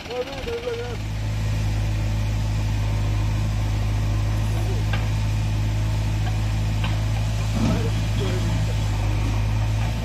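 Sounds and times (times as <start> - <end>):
backhoe diesel engine drone: 0.0 - 10.0
tractor idling: 0.0 - 10.0.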